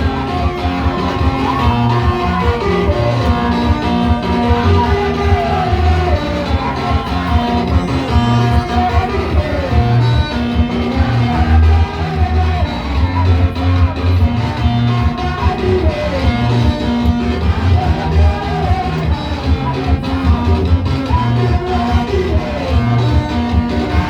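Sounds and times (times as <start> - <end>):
guitar: 0.0 - 24.0
person singing: 0.0 - 24.0
pulsing bass line: 0.0 - 24.0.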